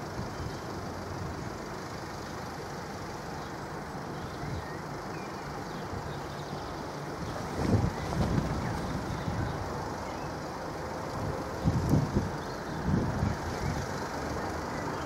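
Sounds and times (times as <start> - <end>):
road vehicles idling: 0.0 - 15.0.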